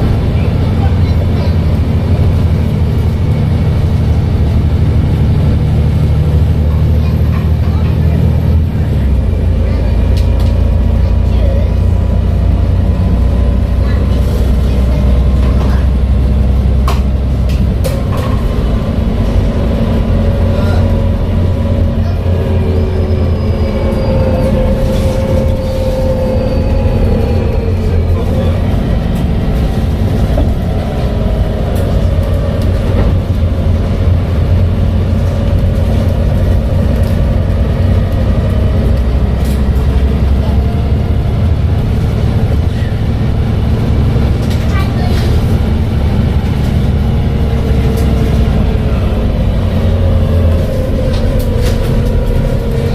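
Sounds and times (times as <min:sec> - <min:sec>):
diesel bus engine droning: 0:00.0 - 0:52.9.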